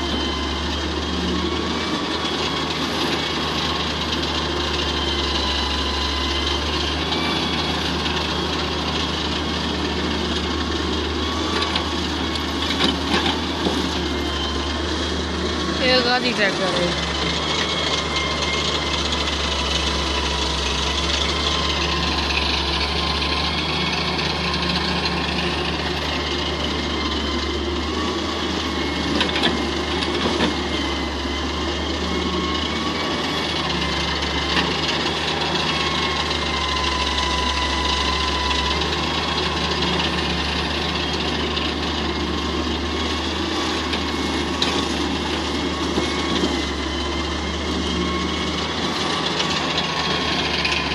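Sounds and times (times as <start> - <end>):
diesel engines running: 0.0 - 50.9.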